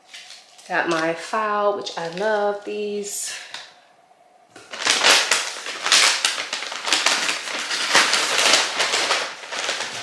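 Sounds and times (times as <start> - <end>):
packaging rustling and crinkling: 0.0 - 2.6, 4.6 - 10.0.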